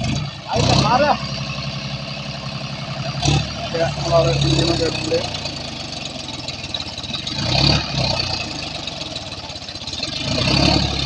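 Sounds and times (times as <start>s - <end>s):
tractor diesel engine chugging: 0.0s - 11.0s.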